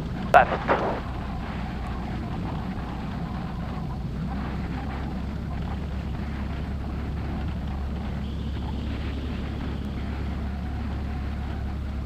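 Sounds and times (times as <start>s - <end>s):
aircraft engine droning: 0.0s - 12.0s.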